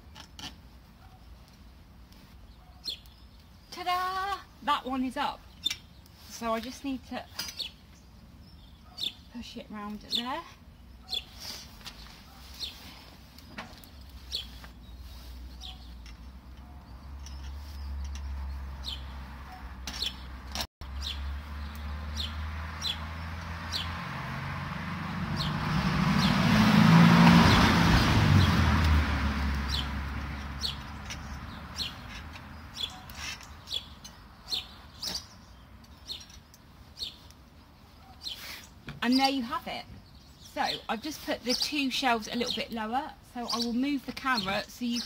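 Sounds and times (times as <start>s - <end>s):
small birds chirping: 0.0s - 24.0s, 29.5s - 45.0s.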